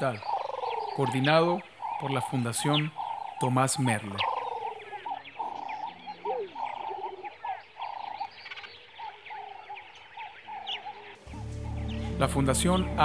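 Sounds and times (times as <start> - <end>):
trilled animal calls: 0.0 - 13.0.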